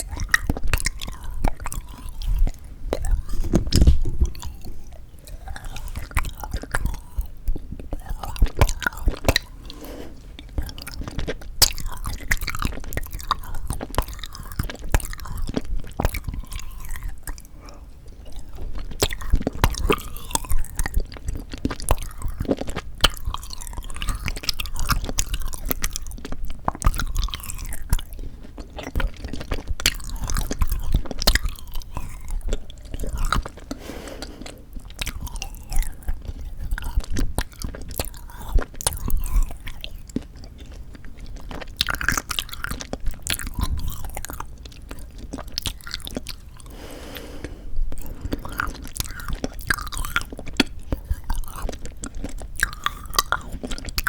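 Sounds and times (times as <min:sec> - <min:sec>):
chewing jelly with mouth clicks: 0:00.0 - 0:54.0.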